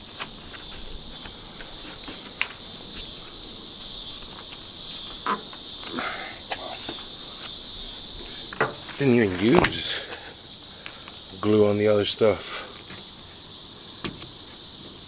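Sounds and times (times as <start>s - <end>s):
insect chorus buzzing drone: 0.0s - 15.0s.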